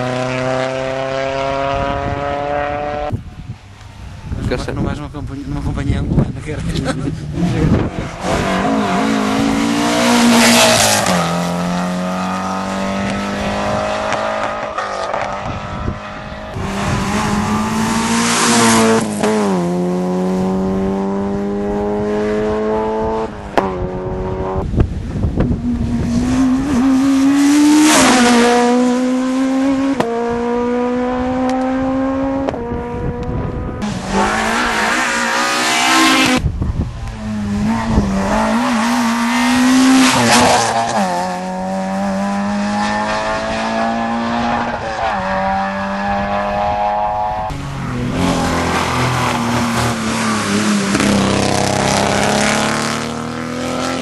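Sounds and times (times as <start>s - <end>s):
rally car engine at high revs: 0.0s - 3.1s, 6.4s - 36.4s, 37.0s - 54.0s.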